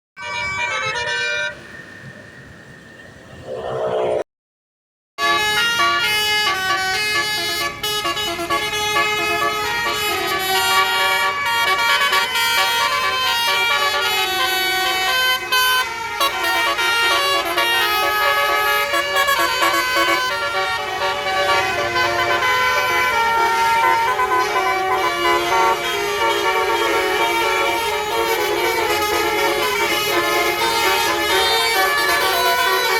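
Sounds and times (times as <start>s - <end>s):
musical bus air horns: 0.2s - 1.7s, 5.2s - 32.9s.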